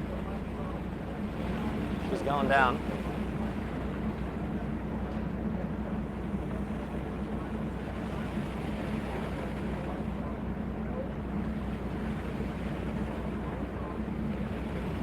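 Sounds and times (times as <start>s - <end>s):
boat engine droning: 0.0s - 15.0s
sea noise: 0.0s - 15.0s
wind: 0.0s - 15.0s.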